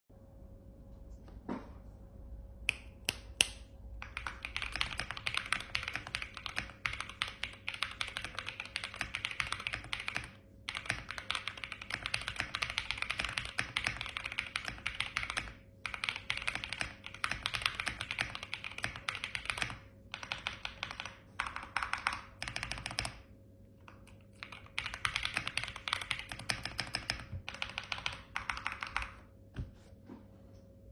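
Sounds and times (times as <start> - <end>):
fast typing on mechanical keyboard: 4.0 - 29.3.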